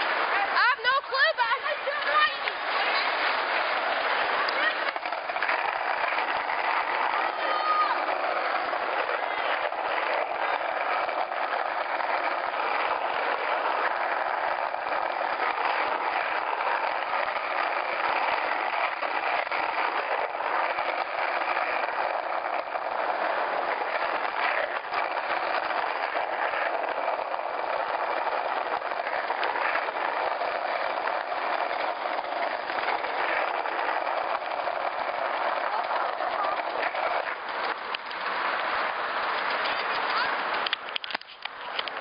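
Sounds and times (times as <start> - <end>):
wind and road rushing noise: 0.0 - 42.0.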